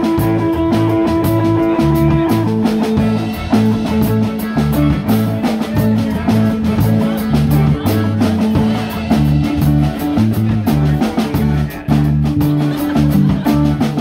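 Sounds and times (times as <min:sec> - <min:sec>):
drum kit: 0:00.0 - 0:14.0
electric guitars: 0:00.0 - 0:14.0
low bass line: 0:00.0 - 0:14.0.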